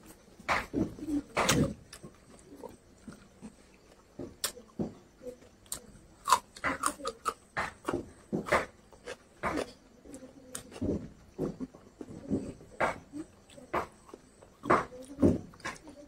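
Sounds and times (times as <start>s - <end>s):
man chewing food: 0.0s - 16.0s.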